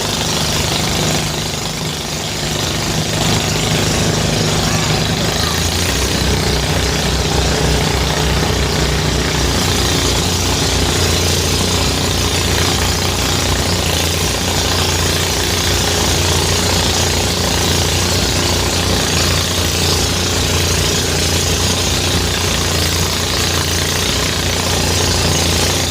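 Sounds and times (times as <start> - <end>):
threshing machine running: 0.0 - 25.9.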